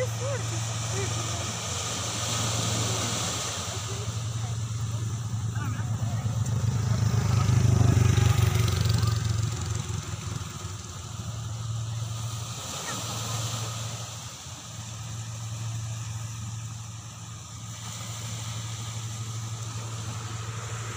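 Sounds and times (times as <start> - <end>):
small waves washing on shore: 0.0 - 20.9
steady low rumble: 0.0 - 20.9.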